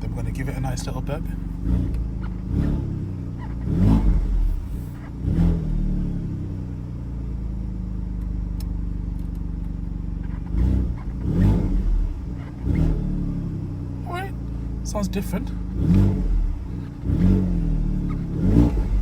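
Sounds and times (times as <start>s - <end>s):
car engine idling: 0.0s - 19.0s
car engine revving: 0.0s - 19.0s.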